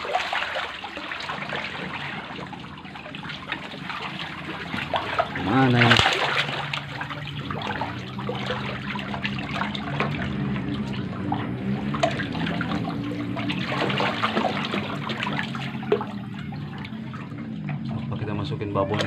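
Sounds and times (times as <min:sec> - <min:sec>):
steady low hum: 0:00.0 - 0:19.0
water trickling and splashing: 0:00.0 - 0:19.0.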